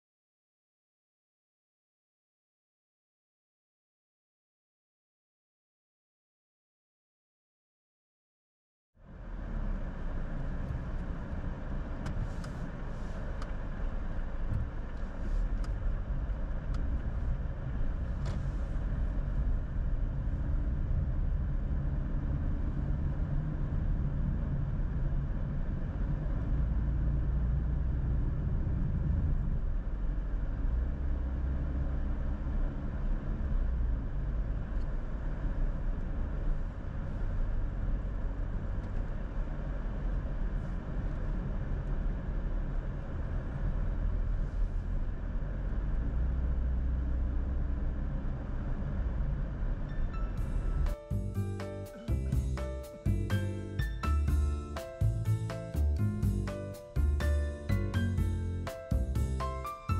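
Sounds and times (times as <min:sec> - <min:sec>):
car engine and road rumble: 0:09.0 - 0:59.9.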